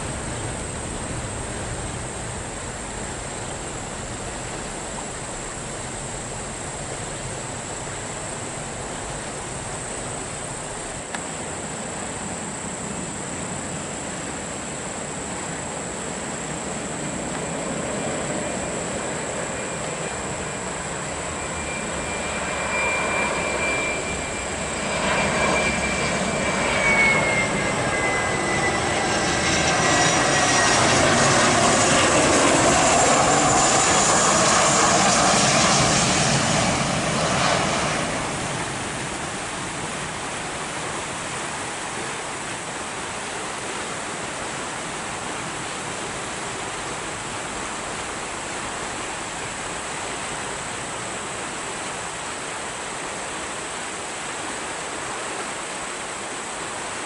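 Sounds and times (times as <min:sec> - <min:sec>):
airliner engines passing: 0:00.0 - 0:57.0.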